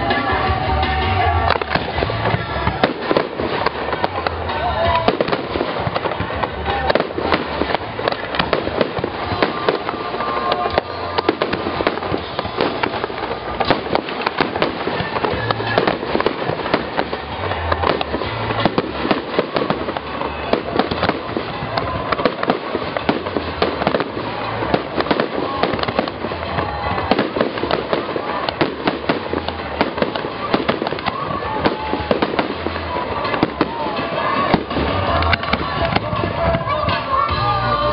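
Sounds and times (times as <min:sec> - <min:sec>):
faint music: 0:00.0 - 0:37.9
fireworks bangs and crackles: 0:00.0 - 0:37.9.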